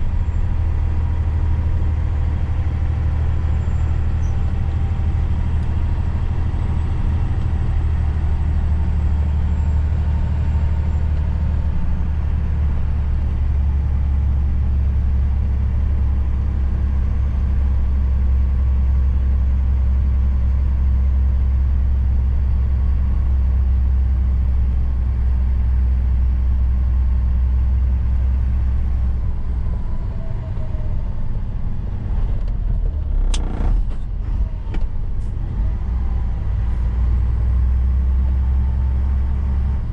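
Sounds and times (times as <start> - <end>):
road rumble: 0.0 - 39.9
truck diesel engine running: 0.0 - 39.9.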